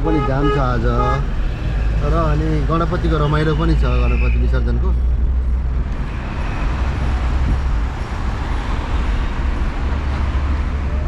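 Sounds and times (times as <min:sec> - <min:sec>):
city road traffic rumble: 0:00.0 - 0:11.0.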